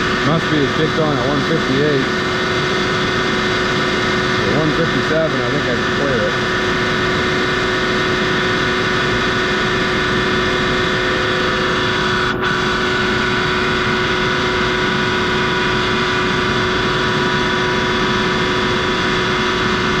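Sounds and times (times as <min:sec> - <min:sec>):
air compressor droning: 0:00.0 - 0:20.0.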